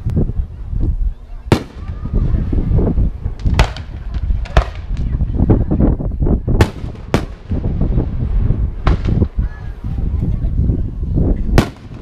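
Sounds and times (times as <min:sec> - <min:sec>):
continuous low rumble: 0:00.0 - 0:12.0.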